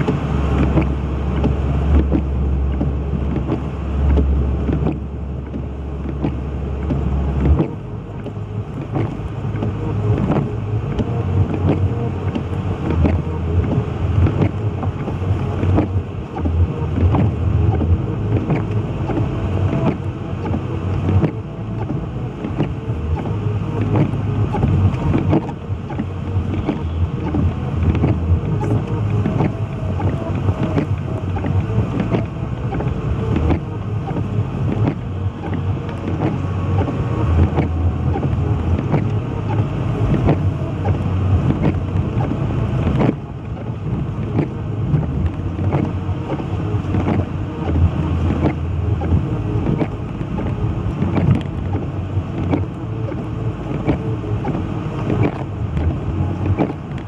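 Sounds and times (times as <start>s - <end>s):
car engine and tyres running: 0.0s - 57.0s.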